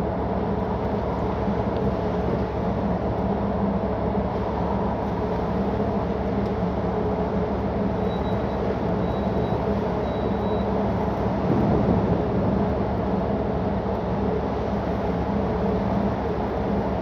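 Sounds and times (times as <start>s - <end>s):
constant rushing noise: 0.0s - 17.0s
ship engine hum: 0.0s - 17.0s.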